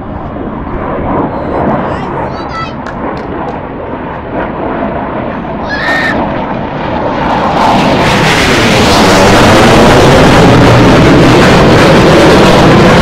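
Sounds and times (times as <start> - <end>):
fighter jets roaring overhead: 0.0 - 13.0.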